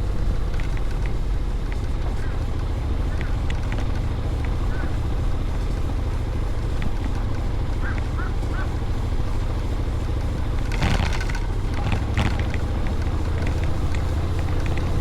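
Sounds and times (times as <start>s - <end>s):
scooter engine and wind rumble: 0.0s - 15.0s.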